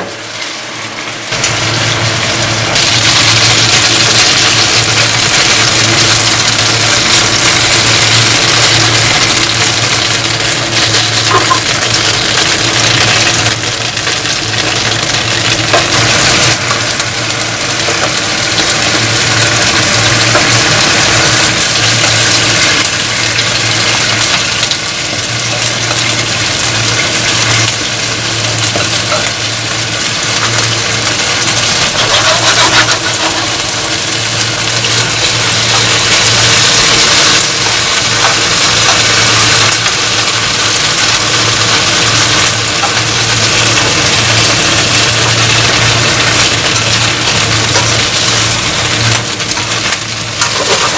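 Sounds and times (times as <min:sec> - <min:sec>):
machine hum: 0:00.0 - 0:50.9.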